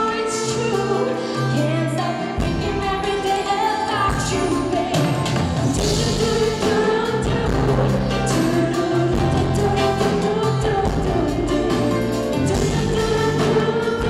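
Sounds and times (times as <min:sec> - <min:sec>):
live pop band playing: 0:00.0 - 0:14.0
woman singing into microphone: 0:00.0 - 0:14.0.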